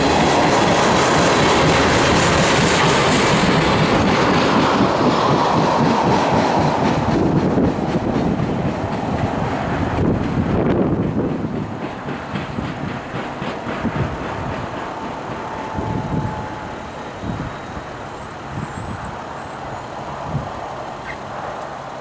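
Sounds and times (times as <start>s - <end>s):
train wheels clicking over rail joints: 0.0s - 22.0s.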